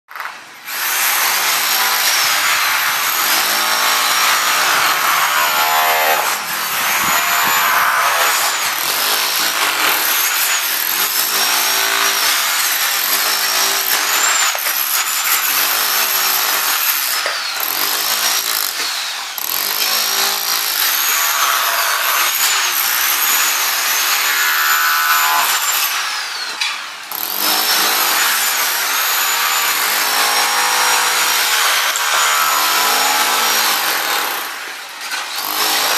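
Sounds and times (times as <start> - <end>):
hammer drill chiselling tiles: 0.1 - 35.9.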